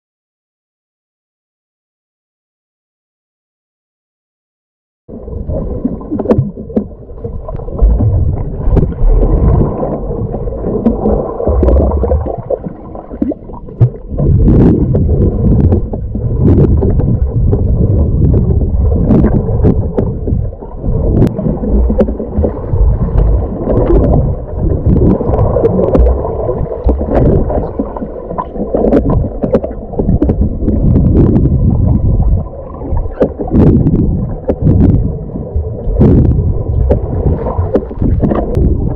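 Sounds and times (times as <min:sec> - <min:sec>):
underwater rumble and gurgling: 0:05.1 - 0:38.9.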